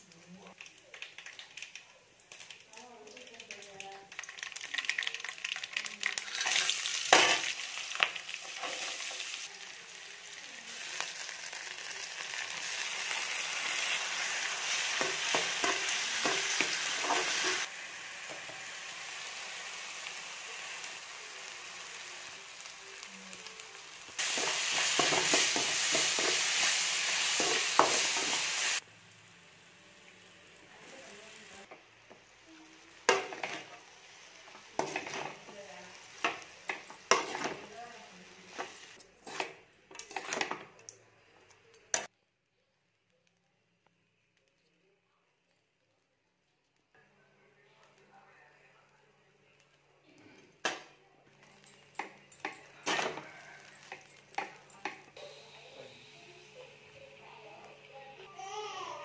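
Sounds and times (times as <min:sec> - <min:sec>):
oil sizzling in a pan: 0:00.0 - 0:41.0, 0:51.9 - 0:59.0.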